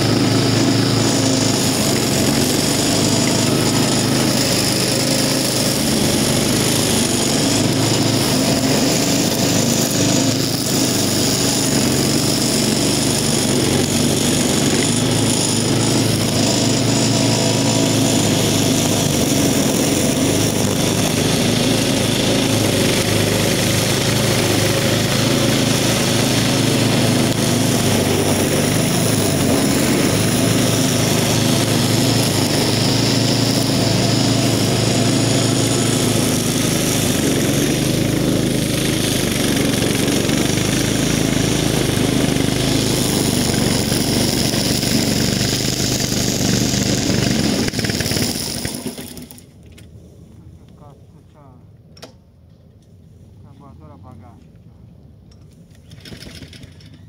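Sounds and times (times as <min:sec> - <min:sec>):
cutting line thrashing grass: 0:00.0 - 0:49.6
string trimmer engine running: 0:00.0 - 0:49.6, 0:55.7 - 0:57.0.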